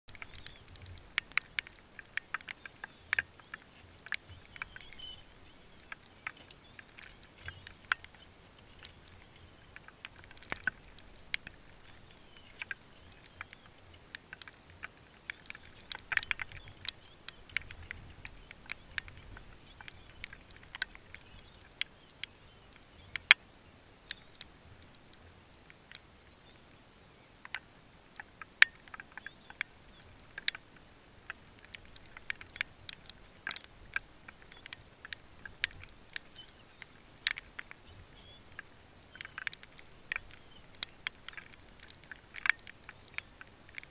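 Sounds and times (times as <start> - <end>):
raindrops ticking on microphone: 0.0 - 43.9
soft steady hiss: 0.0 - 43.9.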